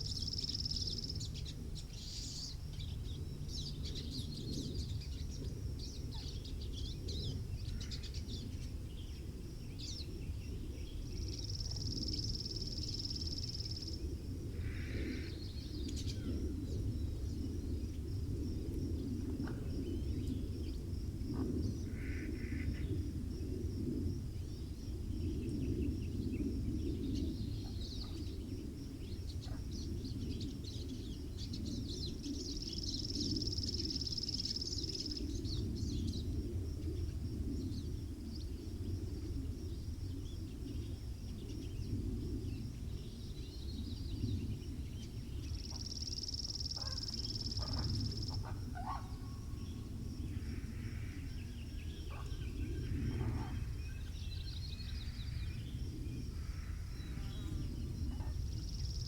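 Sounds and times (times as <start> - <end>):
low wind noise: 0.0 - 59.0
songbirds chirping: 0.0 - 59.0.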